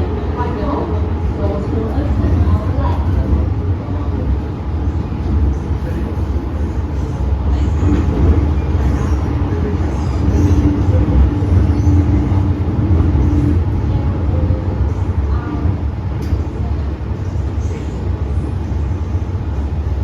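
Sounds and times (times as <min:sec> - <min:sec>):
train wheels rumbling on track: 0:00.0 - 0:20.0.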